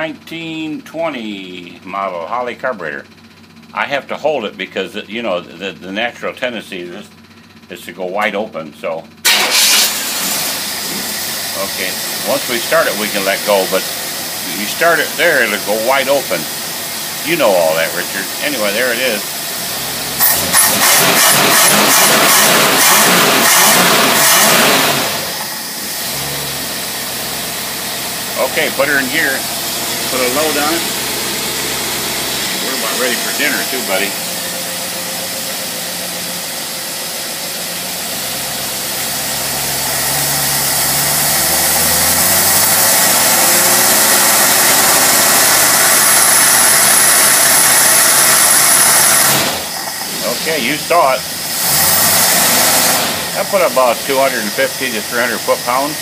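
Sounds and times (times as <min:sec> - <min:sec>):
engine revving: 0:09.2 - 0:56.0.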